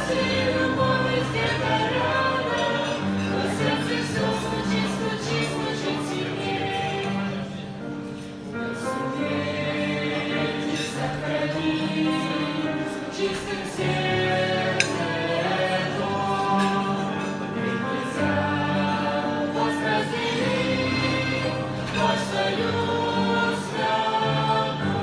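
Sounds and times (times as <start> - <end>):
choir singing in harmony: 0.0 - 25.0.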